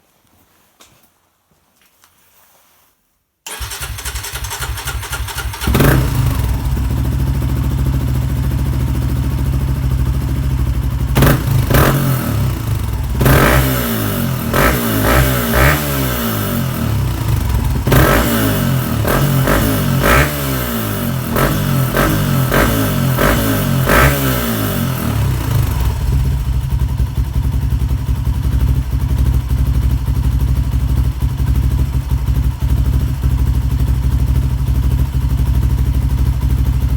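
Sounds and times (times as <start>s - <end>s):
motorcycle engine starting and revving: 3.5s - 36.9s.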